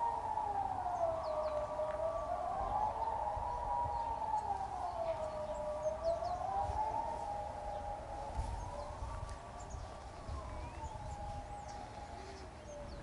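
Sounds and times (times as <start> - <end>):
faint birds chirping: 0.0 - 13.0
siren wailing: 0.0 - 13.0.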